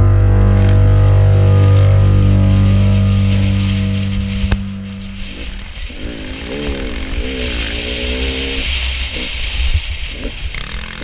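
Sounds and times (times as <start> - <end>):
dirt bike engine revving: 0.0 - 11.0
low rumble: 0.0 - 11.0.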